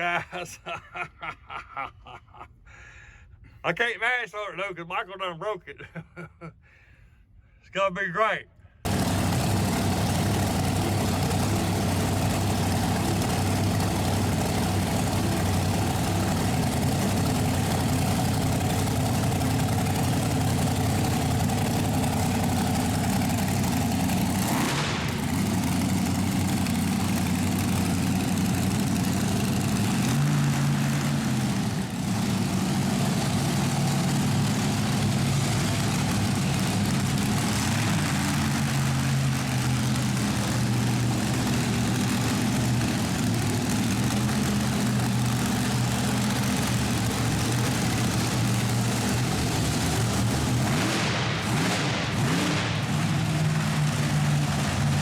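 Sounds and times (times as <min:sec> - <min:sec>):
truck engine running at low revs: 0:08.8 - 0:55.0.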